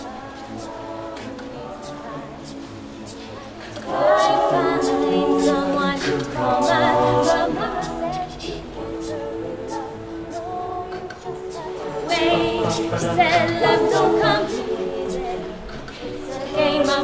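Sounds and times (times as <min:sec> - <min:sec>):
choir singing a cappella: 0:00.0 - 0:17.0.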